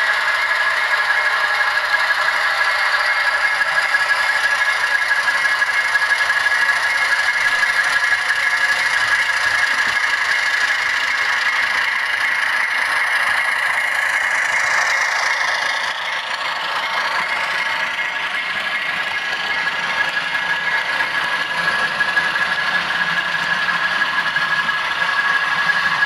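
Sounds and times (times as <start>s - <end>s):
model train motor whine: 0.0s - 26.0s.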